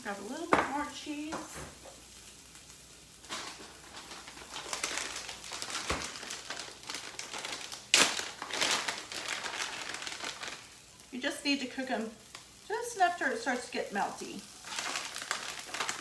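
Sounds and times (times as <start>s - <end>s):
cheese crackling in frying pan: 0.0s - 16.0s.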